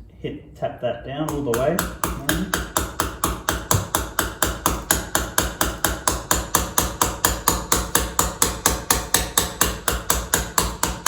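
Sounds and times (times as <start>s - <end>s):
mallet tapping: 1.3s - 11.0s.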